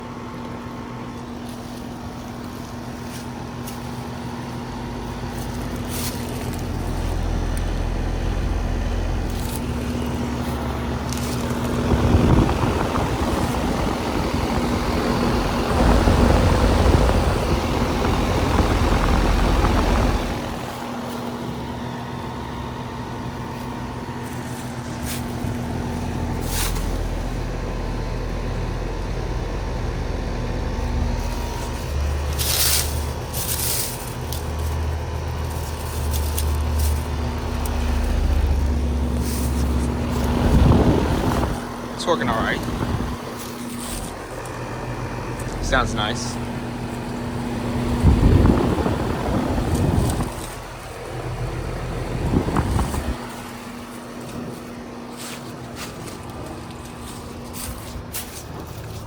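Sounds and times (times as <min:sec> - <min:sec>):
air conditioner unit humming: 0:00.0 - 0:59.0.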